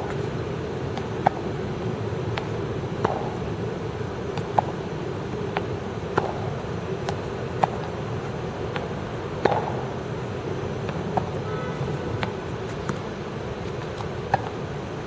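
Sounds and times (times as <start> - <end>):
tennis balls struck with rackets: 0.0 - 14.6
tennis balls bouncing on court: 0.0 - 14.7
steady background hum: 0.0 - 15.0.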